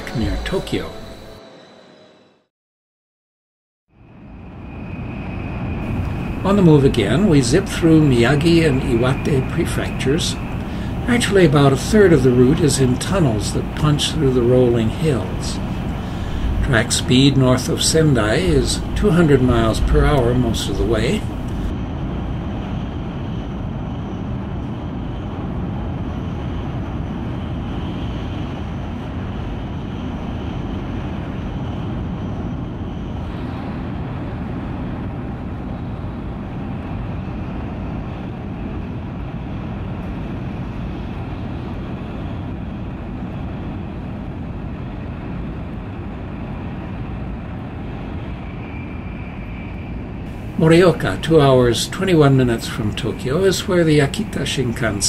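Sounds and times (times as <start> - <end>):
train rumble and rush: 0.0 - 2.3, 4.0 - 55.0
faint high whine: 0.0 - 2.5, 4.0 - 55.0.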